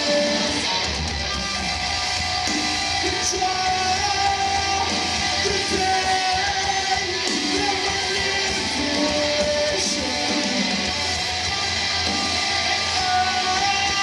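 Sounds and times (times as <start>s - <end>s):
drums: 0.0s - 14.0s
electric guitar: 0.0s - 14.0s
person singing: 0.0s - 14.0s.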